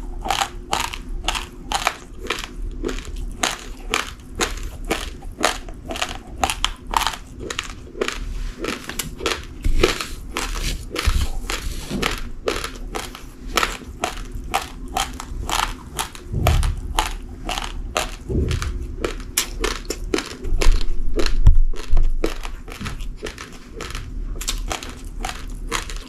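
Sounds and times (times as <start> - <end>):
rice grains crunching when chewed: 0.0 - 26.0.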